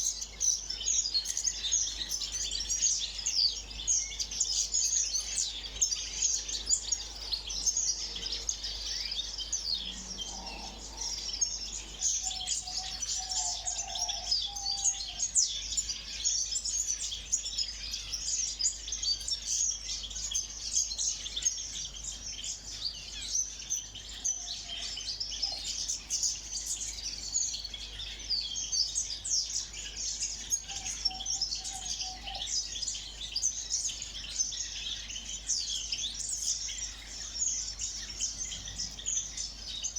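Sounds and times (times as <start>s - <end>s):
cage birds chirping: 0.0s - 39.9s.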